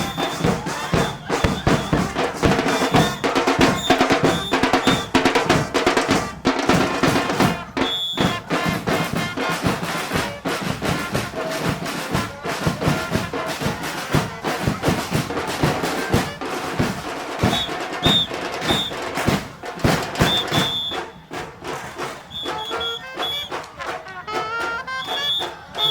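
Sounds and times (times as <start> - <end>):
brass playing: 0.0 - 19.3, 22.3 - 25.9
drums beating: 0.0 - 25.9.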